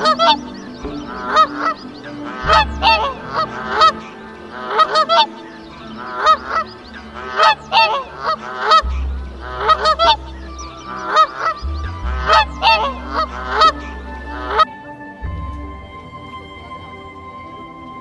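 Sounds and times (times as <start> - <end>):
geese honking: 0.0 - 18.0
music with held notes: 0.0 - 18.0.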